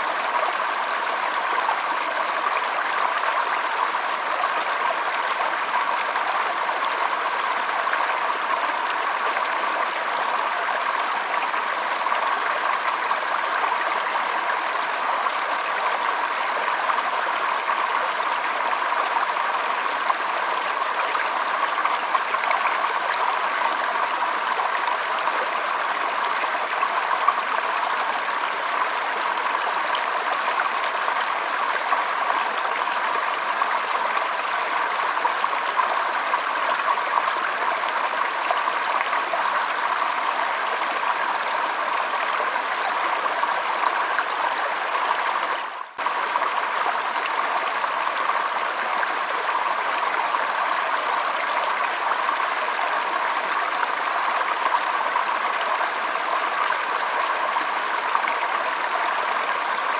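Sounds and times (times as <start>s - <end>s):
stream trickling over its bed: 0.0s - 59.9s.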